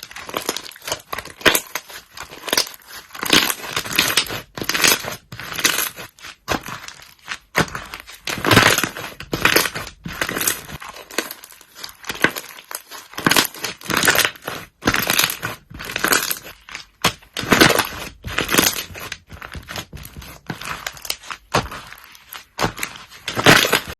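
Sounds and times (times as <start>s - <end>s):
slime squishing by hand: 0.0s - 23.9s.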